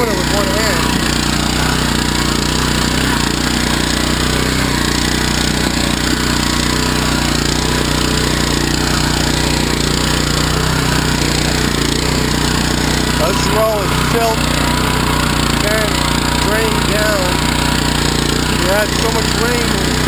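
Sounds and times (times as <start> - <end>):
small engine running under load: 0.0 - 20.0
tiller tines through soil: 0.0 - 20.0.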